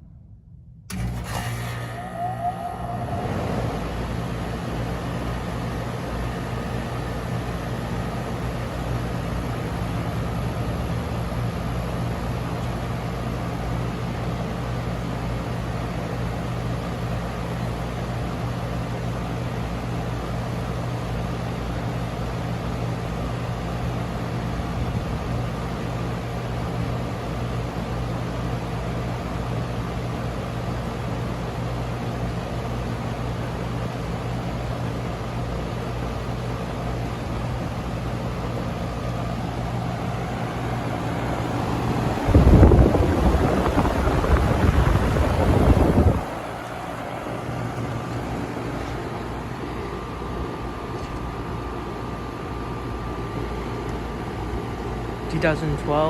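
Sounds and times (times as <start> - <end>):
compressor hum: 0.0 - 56.0
condenser fan rushing: 0.0 - 56.0.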